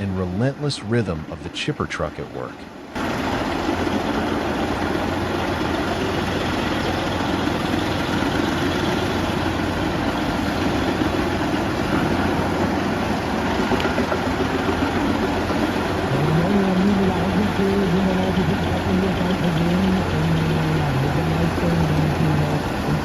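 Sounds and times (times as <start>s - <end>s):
industrial wood chipper running: 2.7s - 23.0s.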